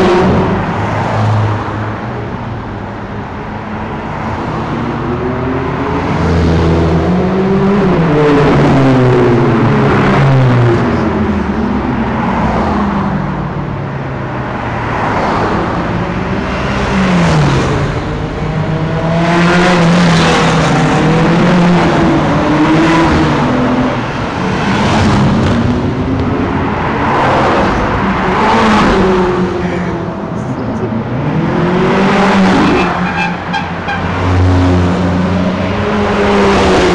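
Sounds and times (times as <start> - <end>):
sports cars revving past: 0.0 - 36.9.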